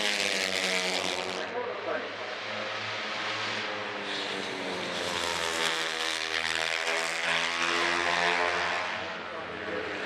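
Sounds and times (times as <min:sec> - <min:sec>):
racing motorcycles passing: 0:00.0 - 0:10.0.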